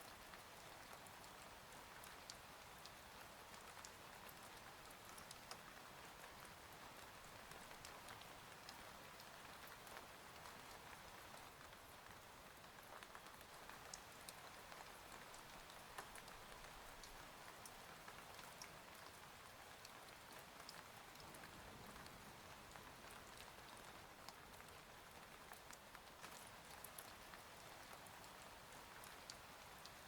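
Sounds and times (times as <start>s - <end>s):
faint rain with drop ticks: 0.0s - 30.0s.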